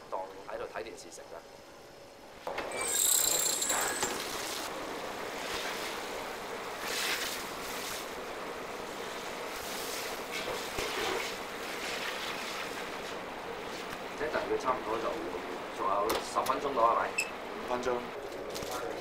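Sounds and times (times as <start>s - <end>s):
oven and ventilation fans rushing: 0.0s - 19.0s.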